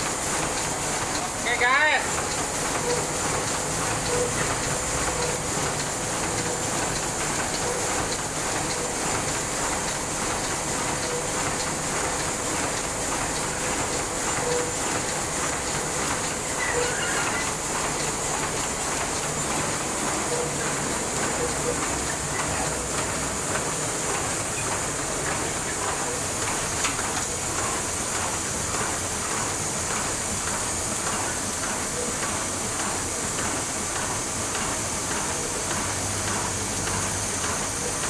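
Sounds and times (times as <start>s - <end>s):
printing press clatter: 0.0s - 38.0s.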